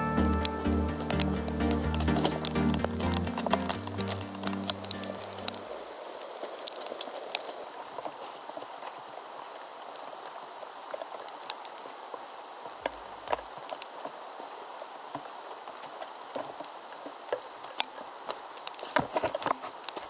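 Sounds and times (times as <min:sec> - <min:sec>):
rain falling on foliage: 0:00.0 - 0:20.0.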